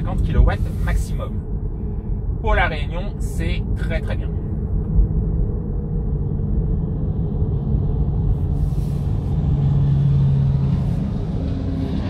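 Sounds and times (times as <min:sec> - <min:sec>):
low hum: 0:00.0 - 0:12.0
road noise inside car cabin: 0:00.0 - 0:12.0.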